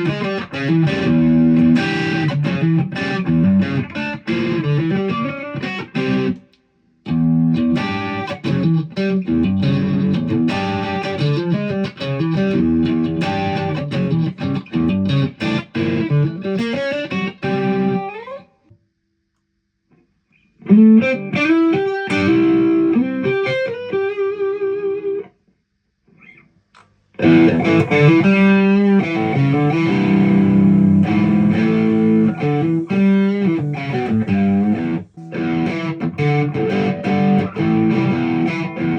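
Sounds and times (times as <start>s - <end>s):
electric guitar with effects: 0.0s - 18.8s, 20.3s - 25.3s, 26.1s - 38.9s.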